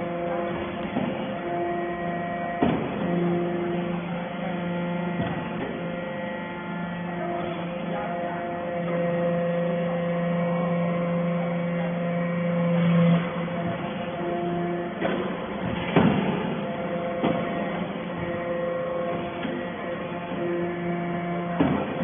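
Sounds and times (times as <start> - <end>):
pump motor humming: 0.0 - 22.0.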